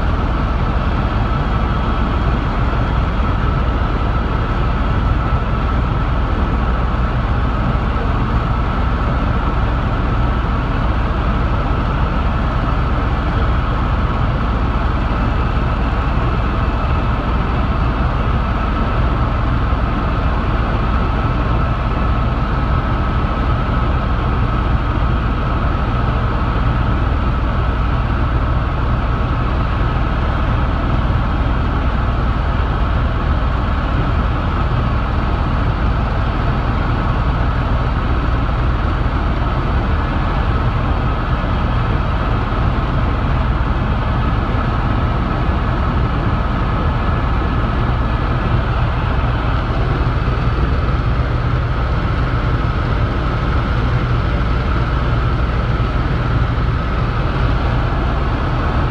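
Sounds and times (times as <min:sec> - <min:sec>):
helicopter cabin drone: 0:00.0 - 0:58.9.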